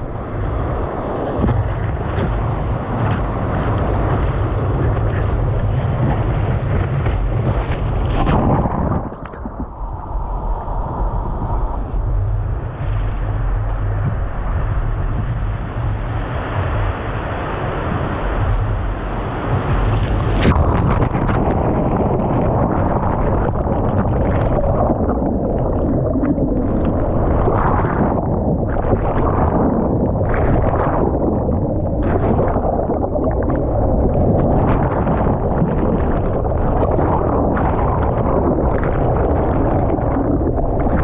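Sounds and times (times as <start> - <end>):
loud steady rushing noise: 0.0 - 40.9
wind buffeting microphone: 0.0 - 41.0.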